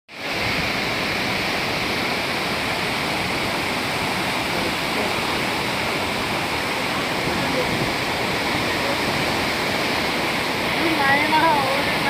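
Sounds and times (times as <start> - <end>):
floodwater rushing from spillway: 0.1 - 12.0.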